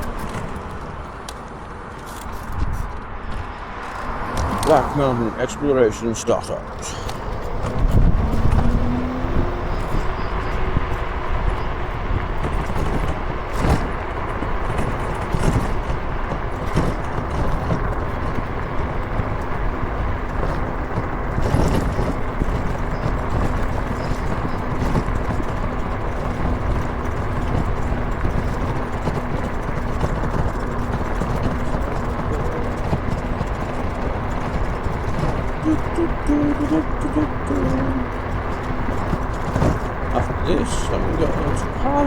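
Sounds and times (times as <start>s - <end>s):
car road and engine noise: 0.0s - 42.0s.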